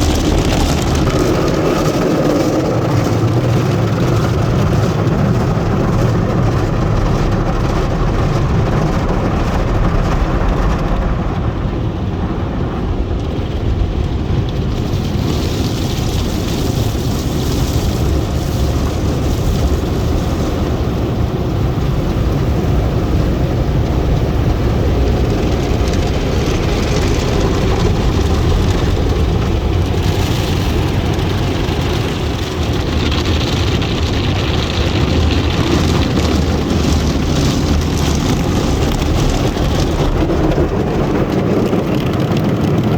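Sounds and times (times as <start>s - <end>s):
car wash machinery rumble: 0.0s - 42.9s.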